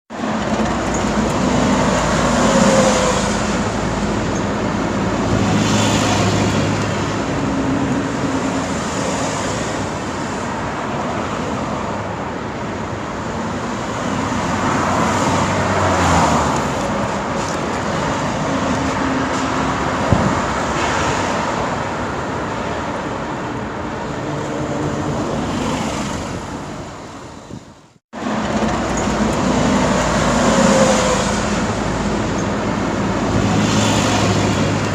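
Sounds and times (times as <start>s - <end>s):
road traffic passing: 0.1s - 34.9s.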